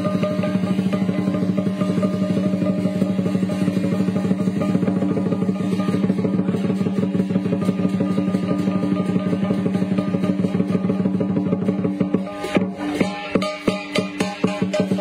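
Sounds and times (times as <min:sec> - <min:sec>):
drum roll: 0:00.0 - 0:15.0.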